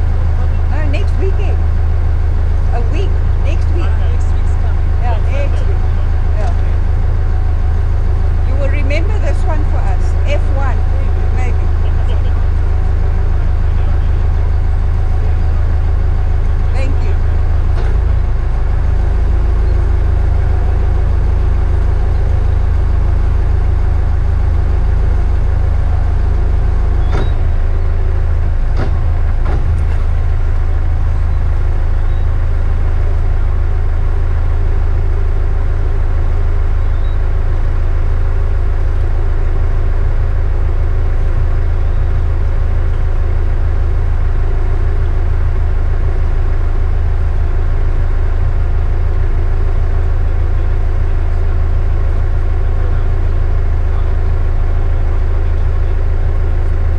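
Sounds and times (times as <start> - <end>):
boat engines droning: 0.0 - 56.9.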